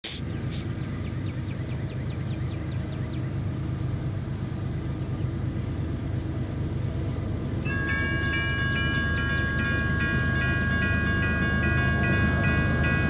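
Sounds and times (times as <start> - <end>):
freight train low rumble: 0.0 - 13.0.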